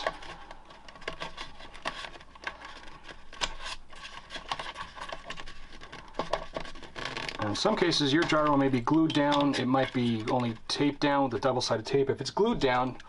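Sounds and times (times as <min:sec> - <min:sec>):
wires rubbing: 0:00.0 - 0:11.6.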